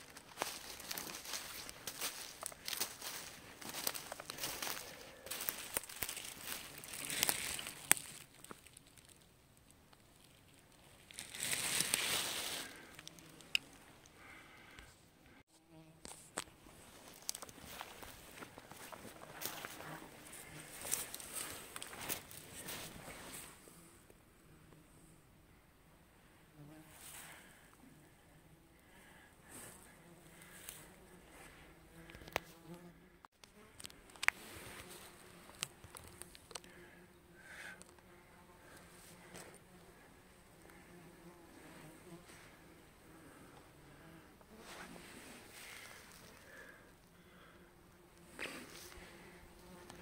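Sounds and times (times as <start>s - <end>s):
rustle of leaves and undergrowth: 0.0s - 14.6s, 16.0s - 24.0s, 26.8s - 28.1s, 28.8s - 32.7s, 33.5s - 50.0s
insect buzzing close: 0.1s - 9.3s, 10.8s - 25.2s, 26.2s - 50.0s.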